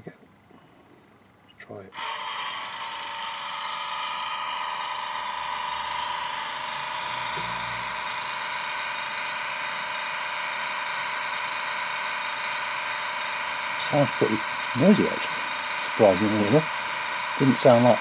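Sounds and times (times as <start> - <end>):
whining diesel engine drone: 2.0 - 18.0.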